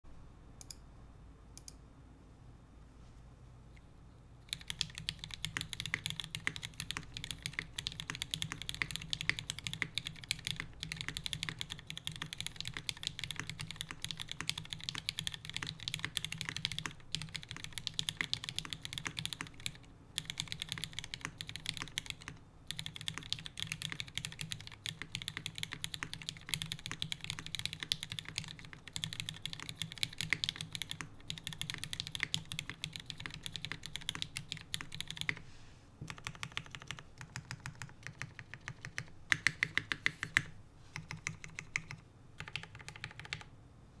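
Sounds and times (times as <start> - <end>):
mechanical keyboard typing: 4.5 - 35.4, 36.0 - 43.5.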